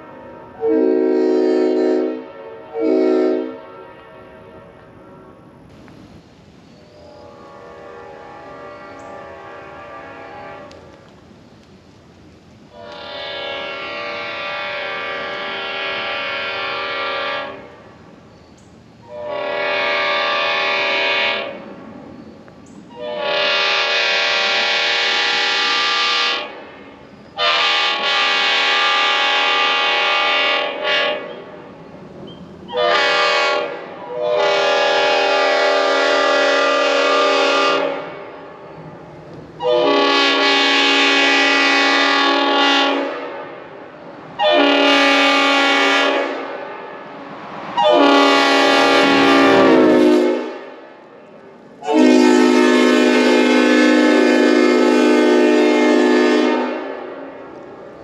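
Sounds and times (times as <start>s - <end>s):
locomotive air horn blasts: 0.0s - 5.5s, 6.8s - 10.9s, 12.7s - 17.8s, 19.0s - 21.6s, 22.9s - 26.8s, 27.4s - 31.6s, 32.7s - 38.7s, 39.6s - 43.8s, 44.4s - 46.8s, 47.8s - 51.0s, 51.8s - 57.5s.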